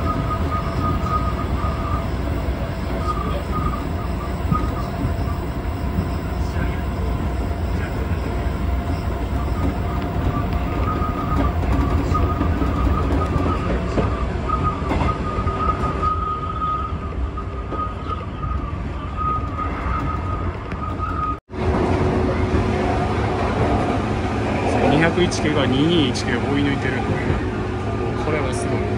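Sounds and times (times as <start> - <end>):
high train whine: 0.0 - 28.9
wheels rumbling on rail: 0.0 - 28.9.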